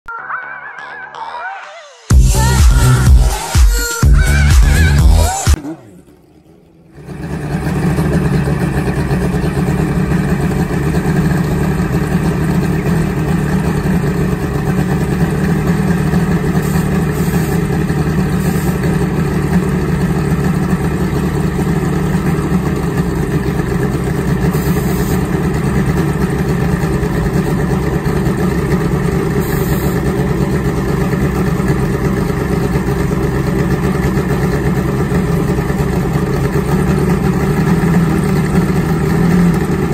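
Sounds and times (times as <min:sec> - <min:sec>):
motorcycle engine idling: 0:04.0 - 0:39.9.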